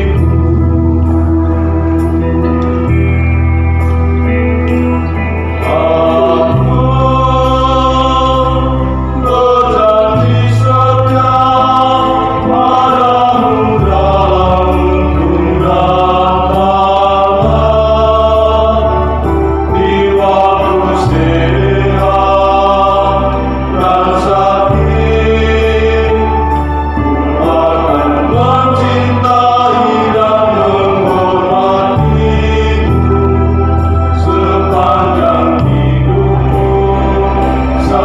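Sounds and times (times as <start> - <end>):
choir singing a hymn: 0.0 - 38.0
sustained low bass notes: 0.0 - 38.0.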